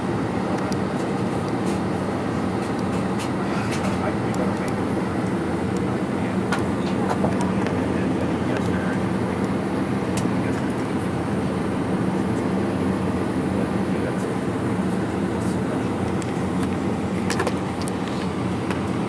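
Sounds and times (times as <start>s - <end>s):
airliner cabin hum: 0.0s - 19.0s.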